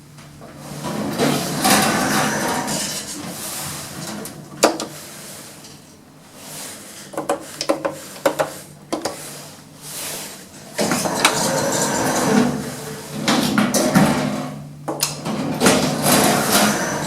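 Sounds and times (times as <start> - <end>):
lift doors sliding: 0.0 - 17.0.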